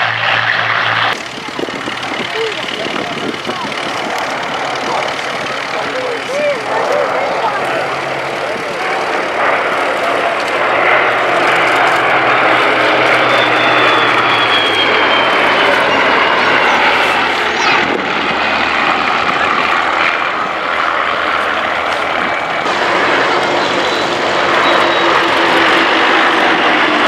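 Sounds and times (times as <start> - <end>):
propeller planes droning past: 0.0 - 27.0.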